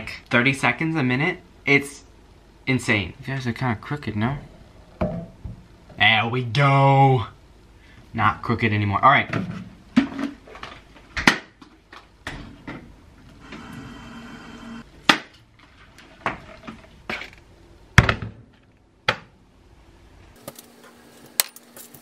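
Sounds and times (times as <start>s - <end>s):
kettle heating hum and hiss: 0.0s - 18.0s, 19.6s - 22.0s.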